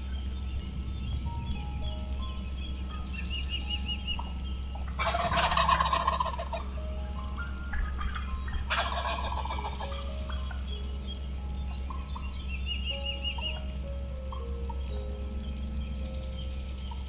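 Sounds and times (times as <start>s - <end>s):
faint background music: 0.0s - 17.0s
rapid pulsing bird calls: 0.0s - 17.0s.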